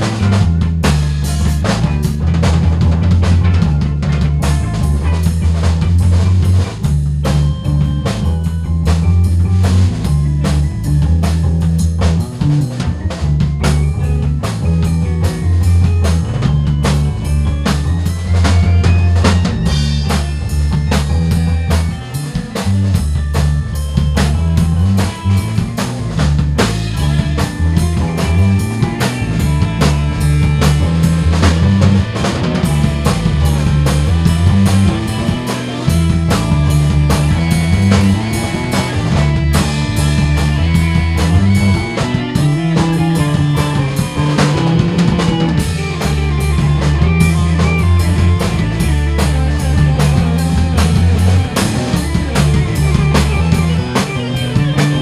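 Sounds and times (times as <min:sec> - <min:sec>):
drum kit playing: 0:00.0 - 0:55.0
electric bass line: 0:00.0 - 0:55.0
electric guitar: 0:00.0 - 0:55.0
electric keyboard: 0:00.0 - 0:55.0.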